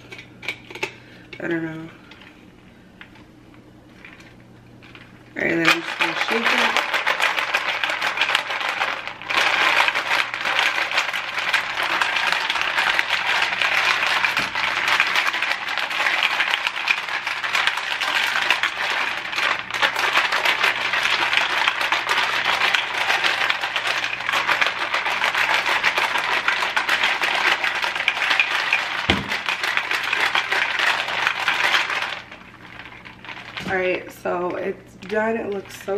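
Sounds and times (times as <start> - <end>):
ice cubes rattling in a bottle: 4.9 - 34.0.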